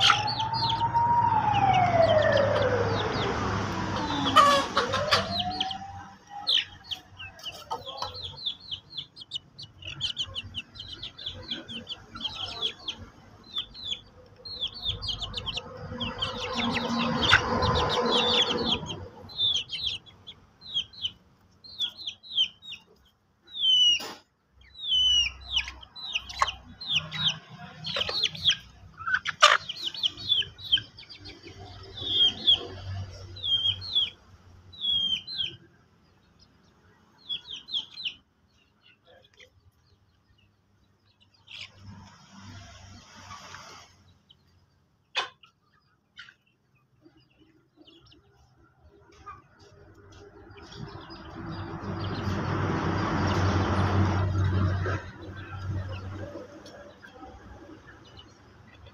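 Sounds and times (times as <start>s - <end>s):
chicks peeping and clucking: 0.0s - 58.9s.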